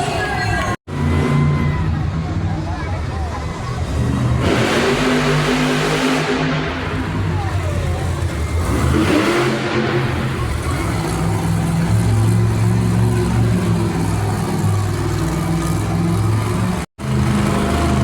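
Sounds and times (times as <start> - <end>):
monster truck engines revving: 0.0 - 18.0.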